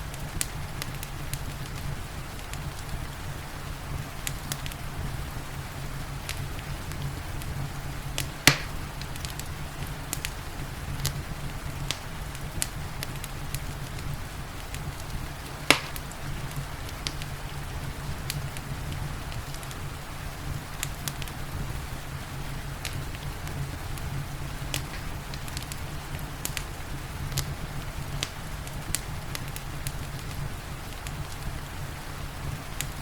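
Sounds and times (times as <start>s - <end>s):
rain hissing: 0.0s - 33.0s
wood fire crackling: 0.0s - 33.0s.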